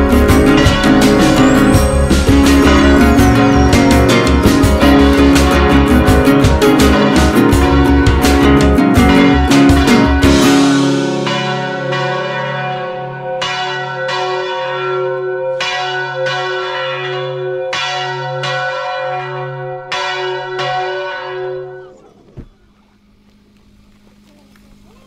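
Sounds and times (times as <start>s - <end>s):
church bell ringing: 0.0s - 22.2s.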